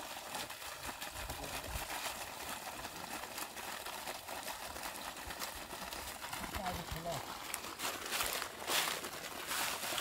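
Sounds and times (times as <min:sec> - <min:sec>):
water gushing onto ground: 0:00.0 - 0:10.0.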